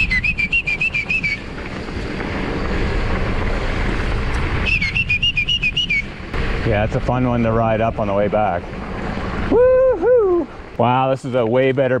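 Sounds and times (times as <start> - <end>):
wind on microphone: 0.0 - 10.8
bike tyres on gravel: 0.0 - 12.0.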